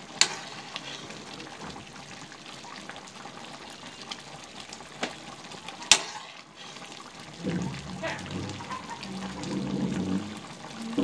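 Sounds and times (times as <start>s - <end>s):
sauce sizzling: 0.0s - 11.0s.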